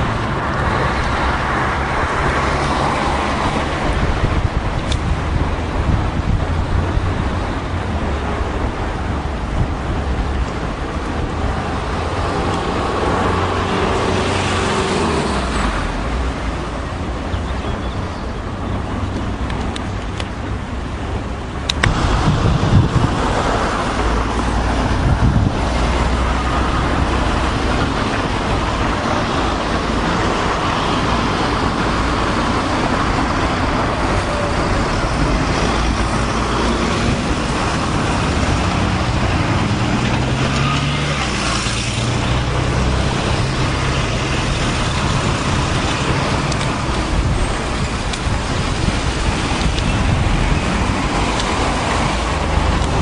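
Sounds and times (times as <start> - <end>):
motor vehicles passing: 0.0 - 53.0.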